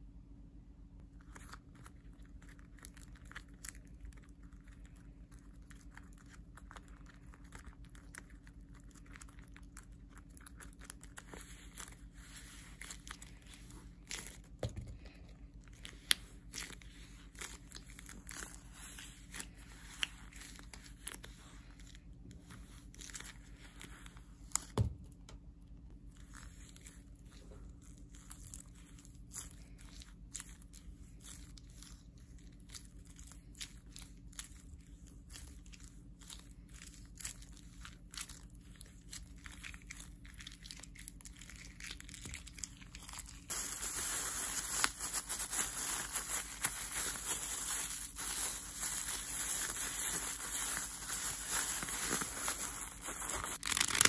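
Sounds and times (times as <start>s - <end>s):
steady low hum: 0.0s - 53.7s
fidget toys crinkling: 1.2s - 24.8s, 26.1s - 54.0s.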